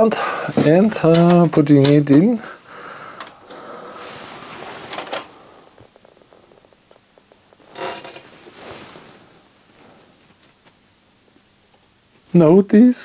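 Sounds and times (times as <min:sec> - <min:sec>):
handling noise of a cd: 0:00.5 - 0:02.4, 0:03.2 - 0:12.3.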